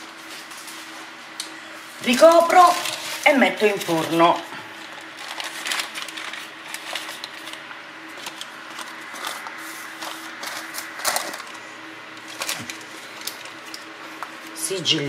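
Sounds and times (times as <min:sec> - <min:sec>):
baking paper rustling and crinkling: 0:00.0 - 0:15.0
steady low hum: 0:00.0 - 0:15.0.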